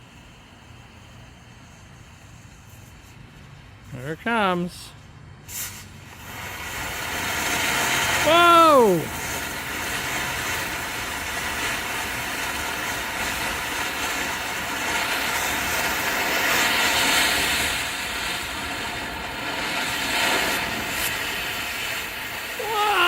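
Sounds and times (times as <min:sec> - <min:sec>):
firework fountain hissing: 0:00.0 - 0:23.0.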